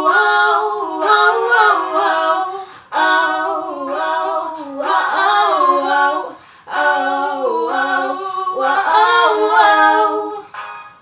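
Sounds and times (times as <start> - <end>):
women singing unaccompanied: 0.0 - 10.5.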